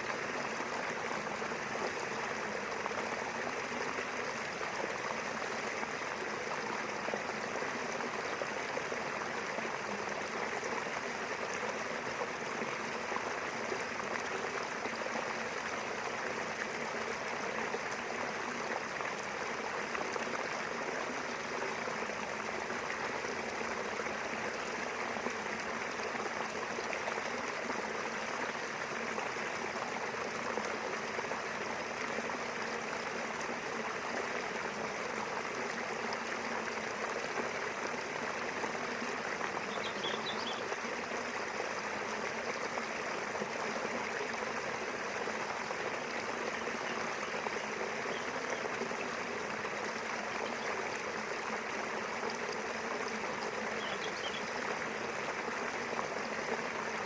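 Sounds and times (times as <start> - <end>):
river water rushing and babbling: 0.0 - 57.0.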